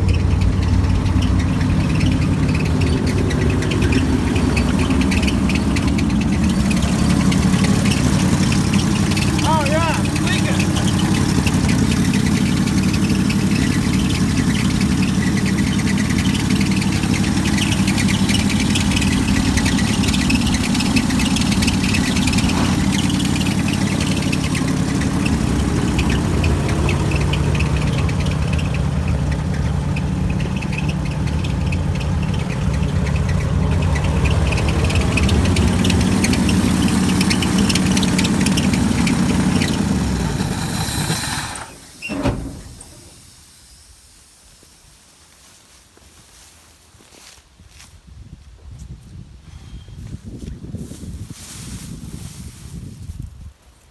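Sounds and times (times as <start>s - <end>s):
vehicle engine running: 0.0s - 46.4s.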